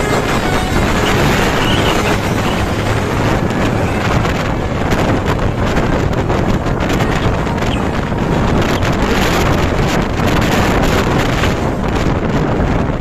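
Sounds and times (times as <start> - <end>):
road traffic roar: 0.0 - 13.0
wind buffeting microphone: 0.0 - 13.0.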